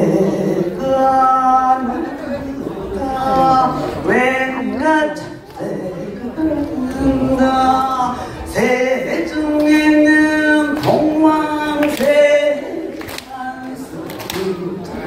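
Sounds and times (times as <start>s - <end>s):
woman singing over loudspeakers: 0.0s - 15.0s.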